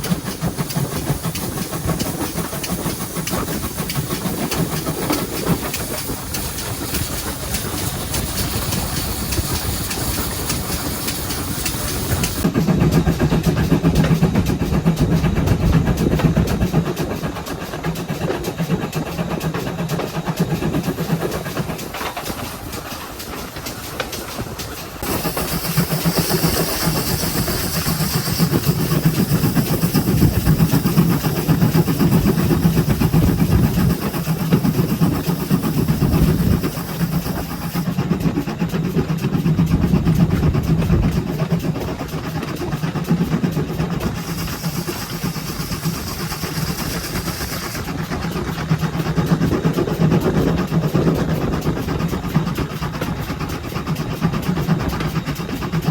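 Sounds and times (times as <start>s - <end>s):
steam hissing: 0.0s - 15.2s, 16.0s - 39.5s, 41.3s - 55.9s
steam locomotive rumble: 0.0s - 55.9s
wheels clattering over rails: 0.0s - 55.9s.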